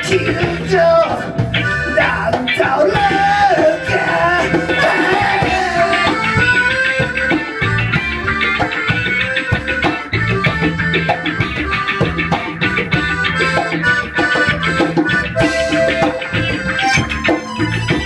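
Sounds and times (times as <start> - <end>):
drums and bass beat: 0.0 - 18.0
live band music: 0.0 - 18.0.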